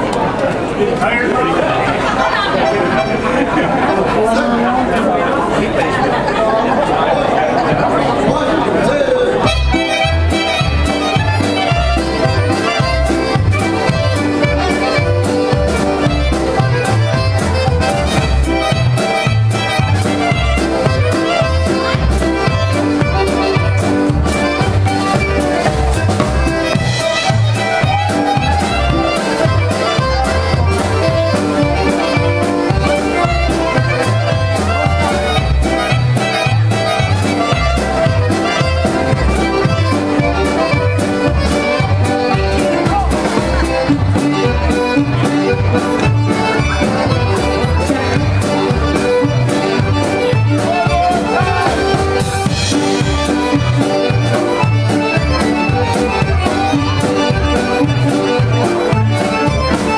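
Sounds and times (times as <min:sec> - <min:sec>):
polka band playing: 0:00.0 - 0:59.9
drum-kit beat: 0:09.5 - 0:59.9.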